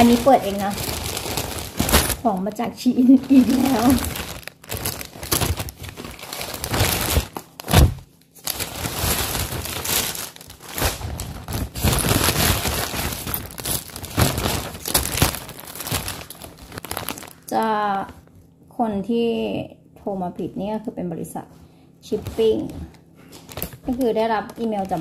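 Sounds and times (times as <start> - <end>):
plastic packaging crinkling: 0.0 - 18.1, 22.2 - 25.0.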